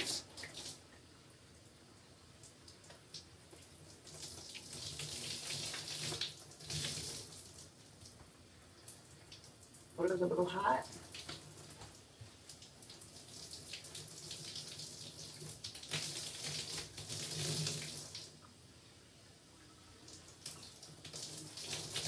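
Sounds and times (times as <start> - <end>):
shower water splashing: 0.0 - 1.0, 2.4 - 18.5, 20.0 - 22.0.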